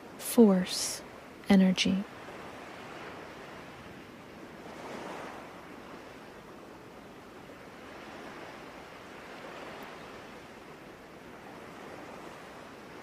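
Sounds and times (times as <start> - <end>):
soft ocean surf: 0.0 - 13.0.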